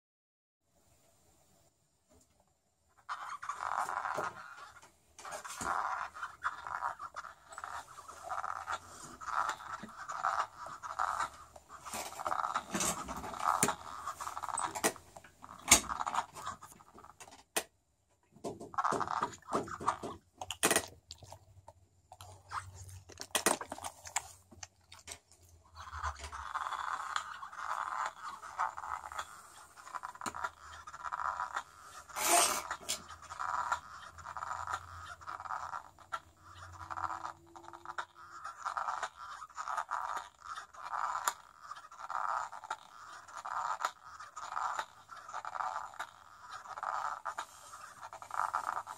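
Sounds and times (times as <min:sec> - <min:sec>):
dog chewing rubber ball: 0:03.0 - 0:17.6, 0:18.4 - 0:48.9.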